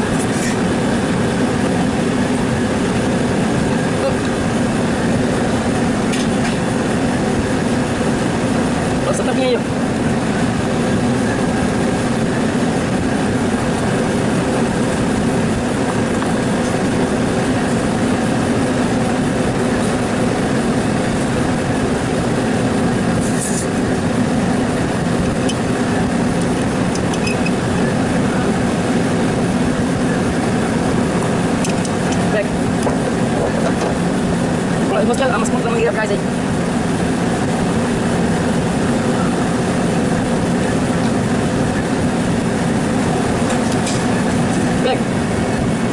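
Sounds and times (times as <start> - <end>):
machine motor humming: 0.0 - 45.9.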